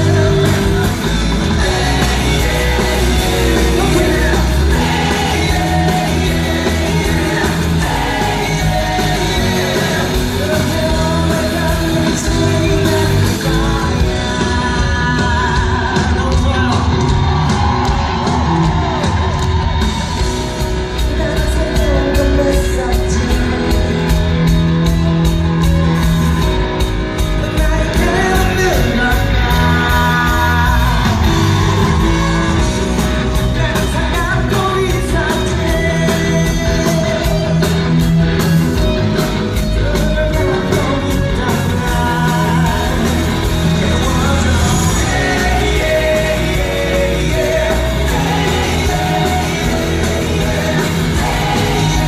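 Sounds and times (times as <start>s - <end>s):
man singing: 0.0s - 17.4s, 20.9s - 24.4s, 27.2s - 52.0s
bass guitar: 0.0s - 52.0s
drums: 0.0s - 52.0s
guitar: 0.0s - 52.0s.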